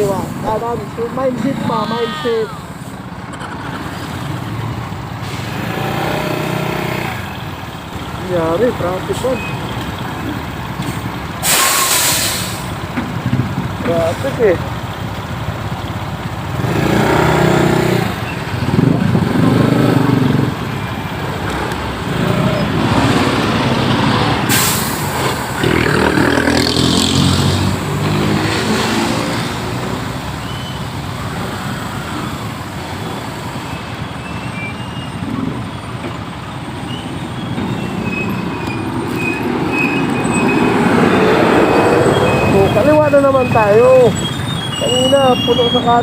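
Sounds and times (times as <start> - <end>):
heavy road traffic: 0.0 - 46.0
truck engines running: 0.0 - 46.0.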